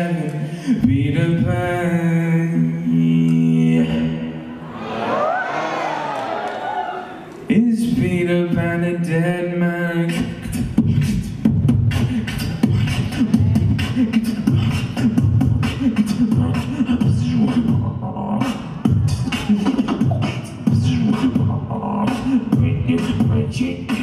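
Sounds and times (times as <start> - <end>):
beatboxing into a microphone: 0.0 - 4.5, 7.5 - 24.0
vocal bass line: 0.0 - 4.8, 7.5 - 24.0.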